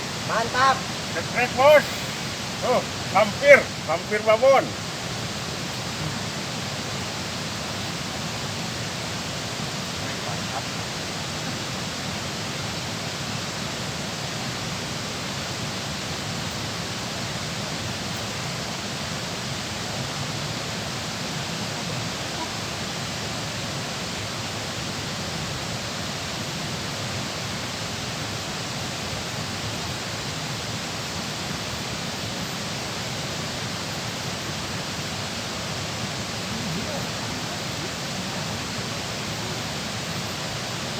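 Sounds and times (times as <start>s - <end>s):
water rushing through dam: 0.0s - 40.9s.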